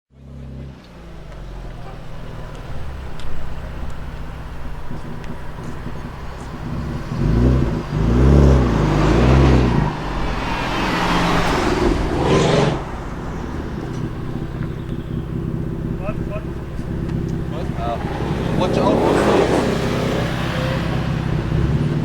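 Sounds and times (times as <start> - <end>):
car engine revving and accelerating: 0.2 - 22.0.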